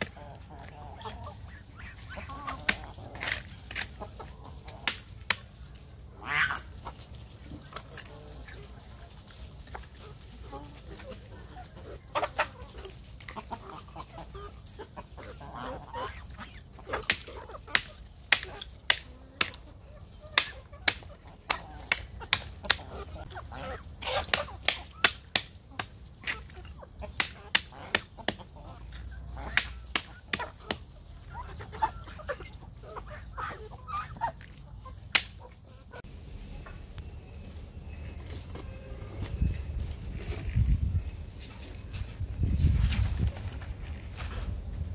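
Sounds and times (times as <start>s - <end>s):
ducks and geese calling: 0.0s - 36.1s
chickens clucking: 0.0s - 44.9s.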